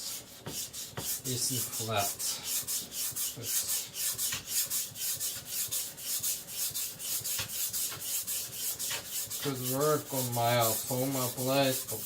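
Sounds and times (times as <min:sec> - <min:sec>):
blade scraping on whetstone: 0:00.4 - 0:12.0.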